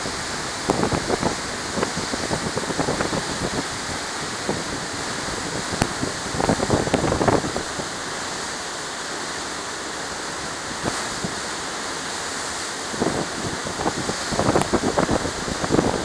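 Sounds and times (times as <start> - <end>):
wind buffeting microphone: 0.0 - 8.5, 10.5 - 16.0
ship's wake churning: 0.0 - 16.0.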